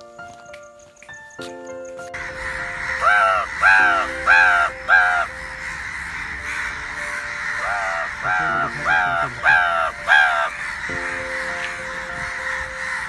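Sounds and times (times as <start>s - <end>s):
background music with low notes: 0.0s - 13.0s
crows cawing: 2.2s - 13.0s.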